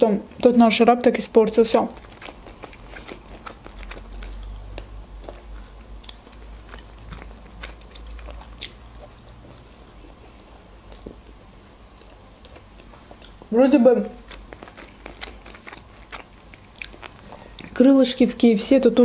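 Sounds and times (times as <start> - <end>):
person chewing: 1.6 - 17.8.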